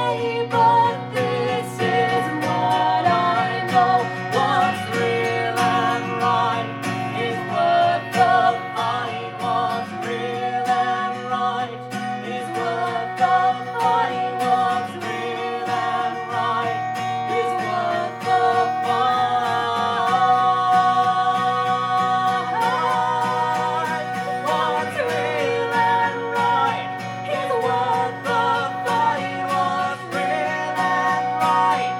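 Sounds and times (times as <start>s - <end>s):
plucked acoustic guitar: 0.0s - 31.9s
wavering melody line: 0.0s - 31.9s.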